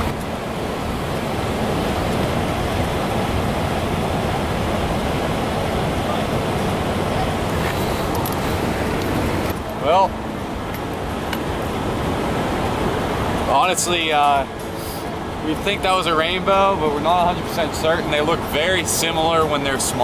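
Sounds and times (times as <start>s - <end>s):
mountain stream water rushing: 0.0s - 20.0s.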